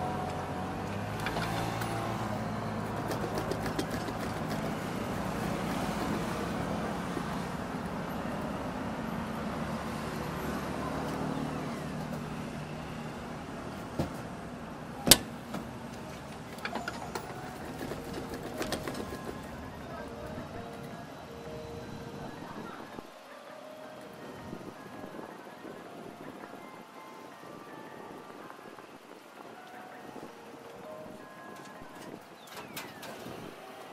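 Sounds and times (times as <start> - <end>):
steady engine hum: 0.0 - 33.9.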